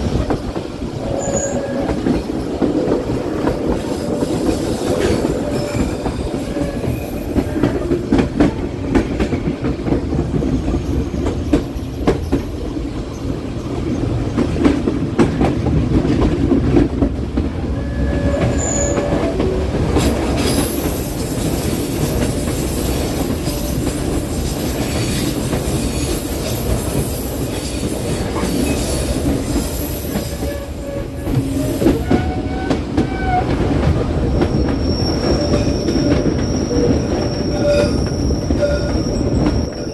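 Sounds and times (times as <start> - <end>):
train rumbling: 0.0 - 39.9
wheel flanges squealing on rail: 0.4 - 12.5, 17.6 - 39.9.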